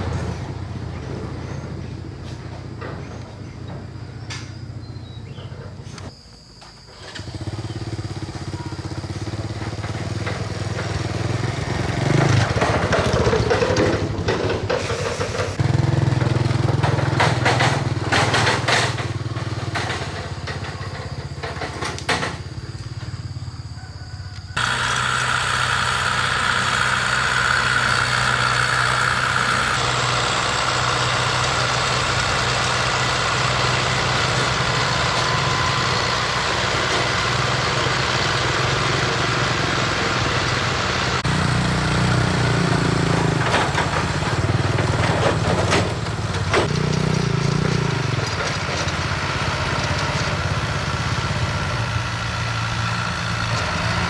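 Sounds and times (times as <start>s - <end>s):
small petrol engine running: 0.0s - 5.8s, 6.9s - 54.0s.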